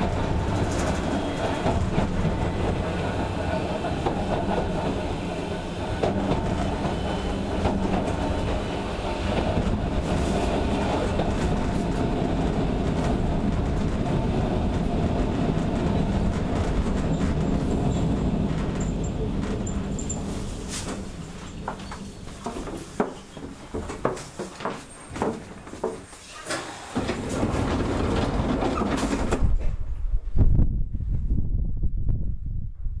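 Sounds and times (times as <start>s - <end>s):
clickety-clack over rail joints: 0.0s - 29.9s
electric train rumbling: 0.0s - 33.0s.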